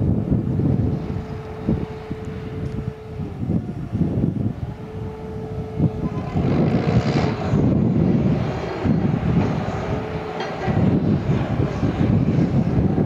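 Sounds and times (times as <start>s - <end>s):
heavy engine rumble: 0.0s - 13.0s
steady whine: 0.0s - 13.0s
wind buffeting microphone: 0.0s - 13.0s.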